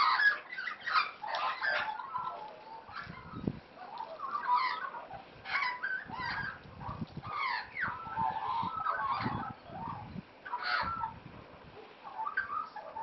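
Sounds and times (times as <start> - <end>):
magpies warbling calls: 0.0 - 11.2, 11.8 - 13.0.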